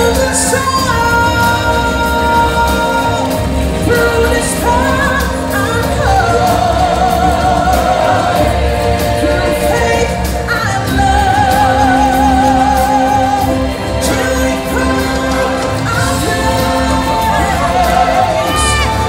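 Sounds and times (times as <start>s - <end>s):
band and percussion: 0.0s - 19.0s.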